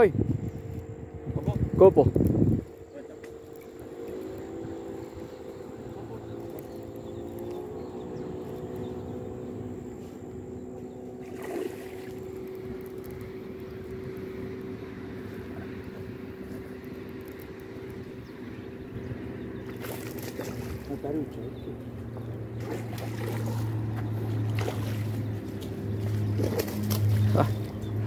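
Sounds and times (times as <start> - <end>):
motorboat engine drone: 0.0 - 28.0.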